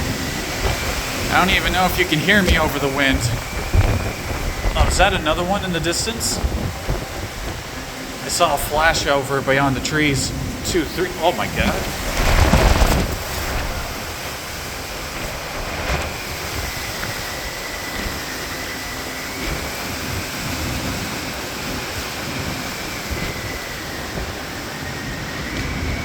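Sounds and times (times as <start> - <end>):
high wind whistle: 0.0 - 26.0
rain: 0.0 - 26.0
storm wind blowing hard: 0.0 - 26.0.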